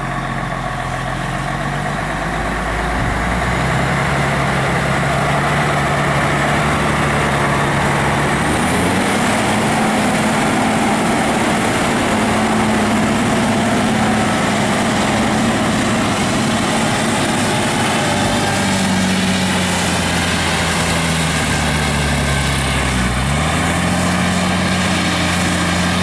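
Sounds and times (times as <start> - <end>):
tractor diesel engine labouring: 0.0 - 26.0.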